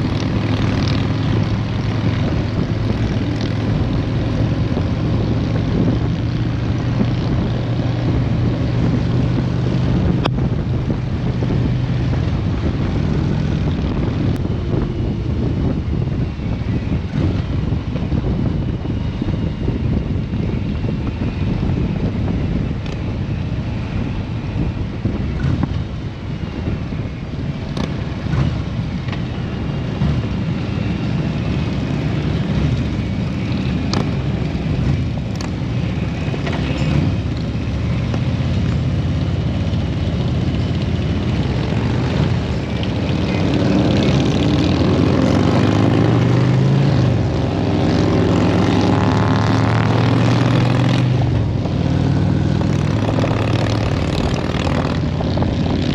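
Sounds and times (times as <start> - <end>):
motorcycle engine hum: 0.0 - 55.9
road noise: 0.0 - 55.9
wind noise on microphone: 0.0 - 55.9.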